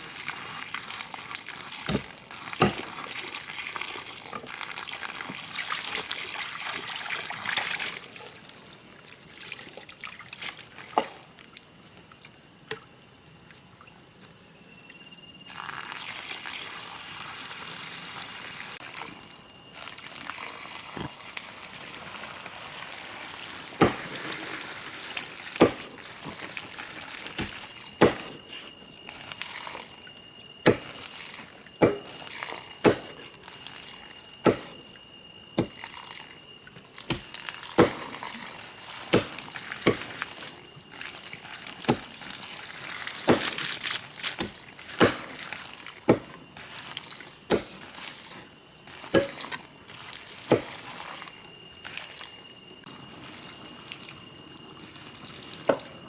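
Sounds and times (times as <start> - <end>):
water splashing and trickling: 0.0 - 14.4, 15.5 - 56.0.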